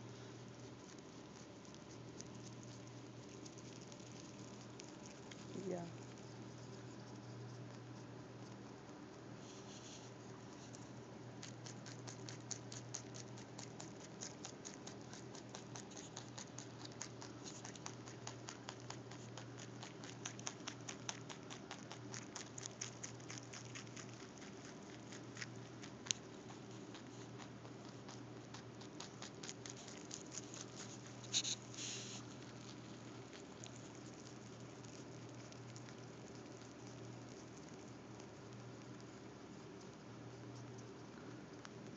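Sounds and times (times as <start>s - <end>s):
rabbit chewing: 0.0s - 41.9s.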